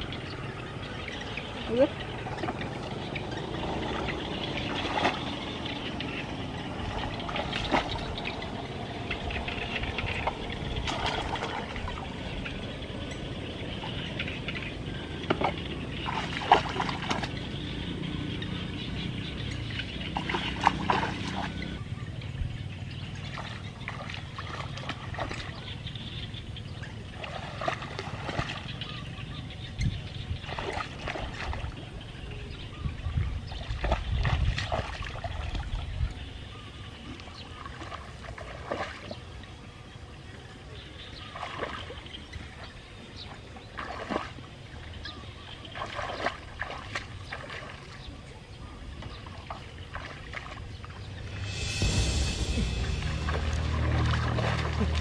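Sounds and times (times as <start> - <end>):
water sloshing and trickling: 0.0 - 55.0.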